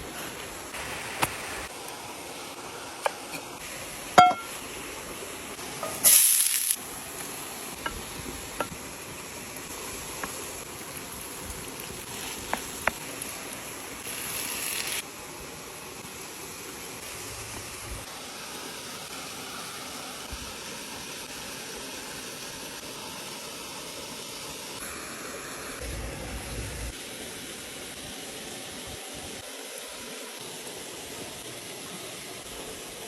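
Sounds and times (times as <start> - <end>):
food sizzling in a pot: 0.0 - 33.0.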